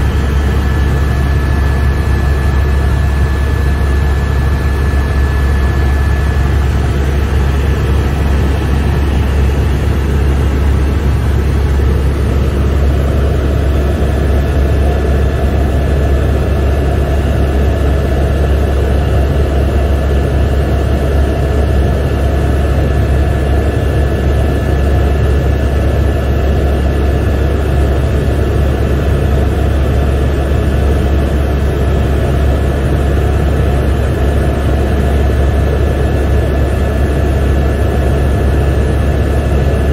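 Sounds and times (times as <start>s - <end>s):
helicopter rotor and engine drone: 0.0s - 39.9s
thin steady whine: 0.0s - 39.9s.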